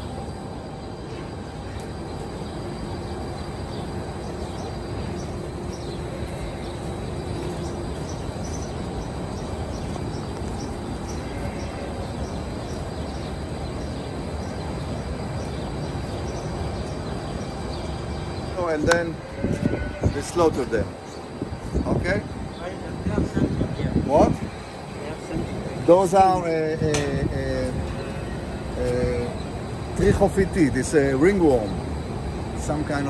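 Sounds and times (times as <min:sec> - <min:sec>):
ventilation fans rushing: 0:00.0 - 0:33.0.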